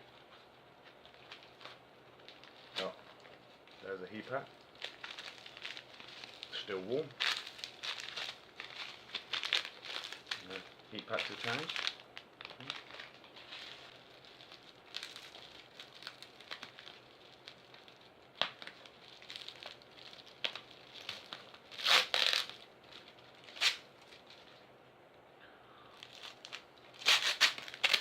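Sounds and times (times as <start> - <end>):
packaging crinkling and tearing: 0.9 - 24.6, 26.0 - 28.0.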